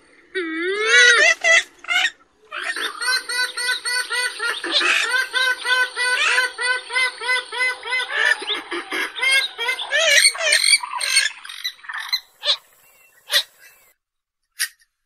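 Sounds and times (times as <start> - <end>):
harsh bird calls: 0.0 - 14.0
bird clucking calls: 0.9 - 13.9.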